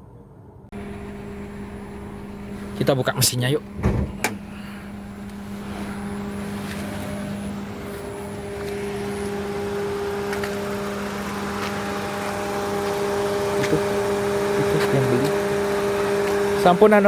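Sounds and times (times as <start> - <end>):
car engine humming: 0.7 - 17.0.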